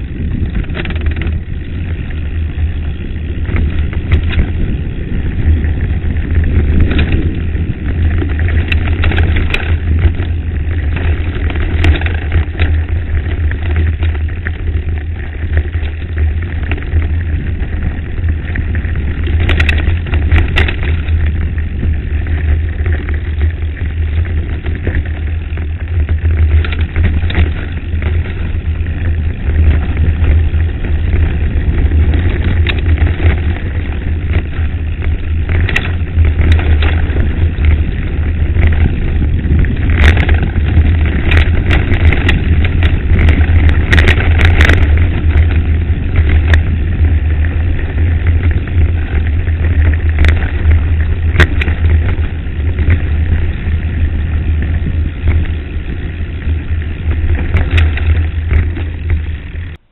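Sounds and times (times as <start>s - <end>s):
bike rattling on gravel: 0.0s - 59.9s
wind buffeting microphone: 0.0s - 59.9s.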